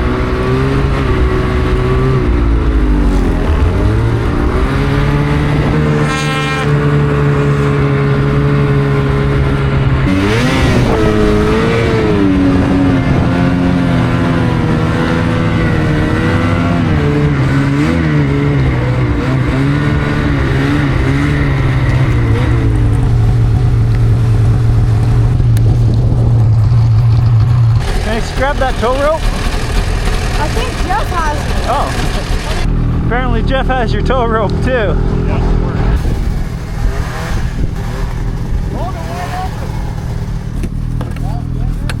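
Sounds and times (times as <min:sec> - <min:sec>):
snowmobile engine revving: 0:00.0 - 0:42.0.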